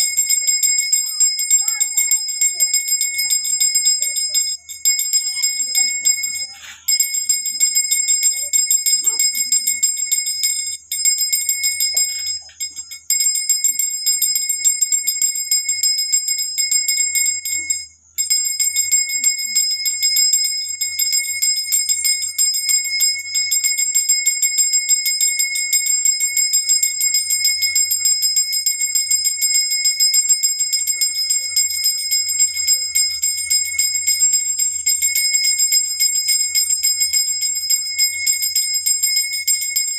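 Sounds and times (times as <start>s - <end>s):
brass hand bell ringing rapidly: 0.0s - 39.9s.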